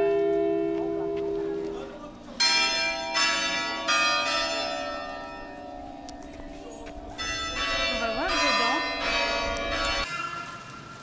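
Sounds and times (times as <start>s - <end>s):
church bells ringing: 0.0s - 10.4s.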